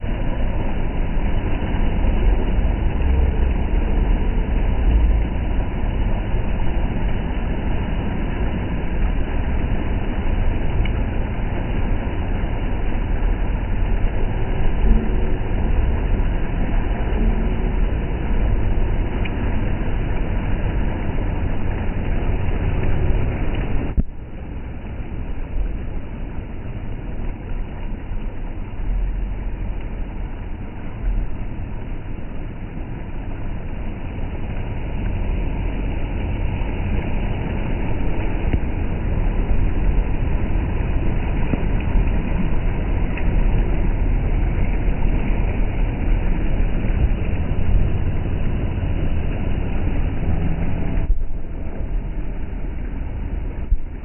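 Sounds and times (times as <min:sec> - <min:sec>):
heavy rain: 0:00.0 - 0:54.0
low rumble: 0:00.0 - 0:54.0
rushing water: 0:00.0 - 0:54.0.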